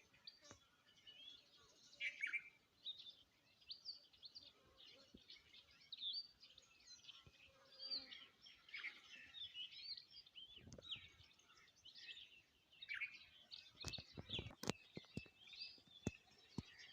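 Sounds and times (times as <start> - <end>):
small birds chirping and twittering: 0.0 - 16.9.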